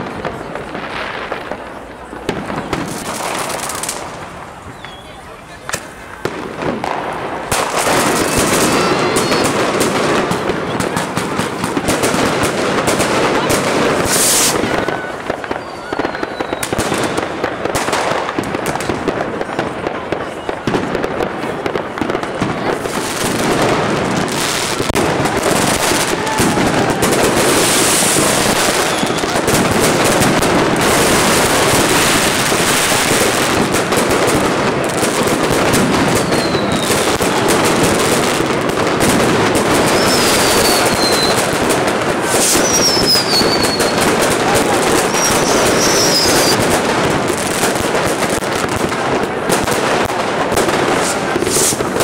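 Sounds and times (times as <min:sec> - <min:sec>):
fireworks crackling and popping: 0:00.0 - 0:52.0
whistling rockets: 0:01.6 - 0:34.4, 0:35.1 - 0:48.8, 0:49.5 - 0:52.0.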